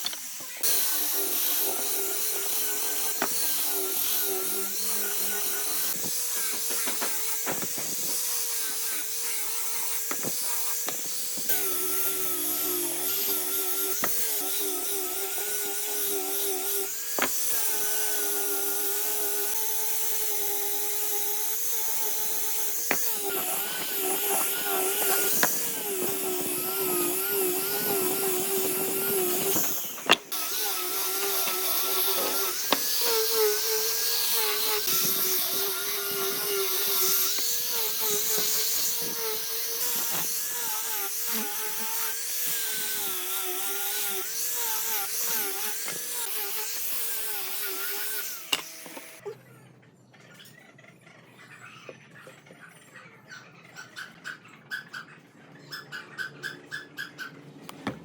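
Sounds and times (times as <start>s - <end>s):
power tool motor running: 0.0s - 49.2s.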